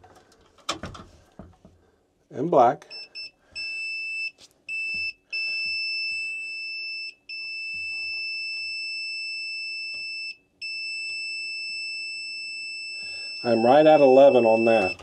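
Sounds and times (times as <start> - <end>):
multimeter continuity beep: 2.9 - 15.0.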